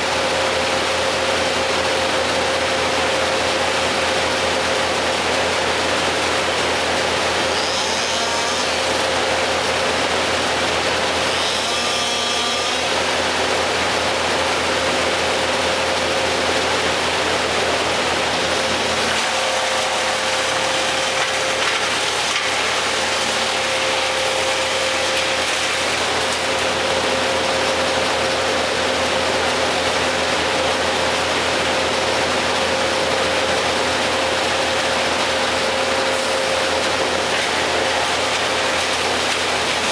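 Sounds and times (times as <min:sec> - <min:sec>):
tree-work machinery engine running: 0:00.0 - 0:39.9.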